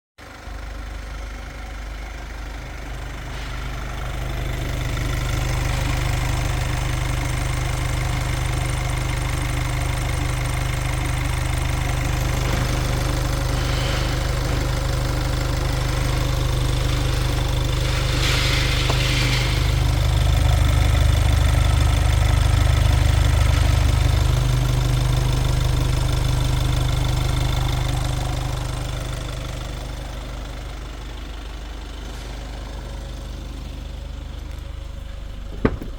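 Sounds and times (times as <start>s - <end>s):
diesel engine idling: 0.2s - 35.9s.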